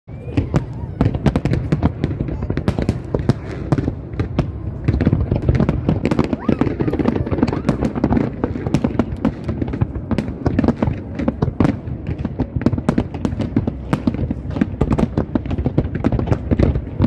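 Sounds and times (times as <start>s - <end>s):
fireworks bangs and crackles: 0.1s - 17.0s.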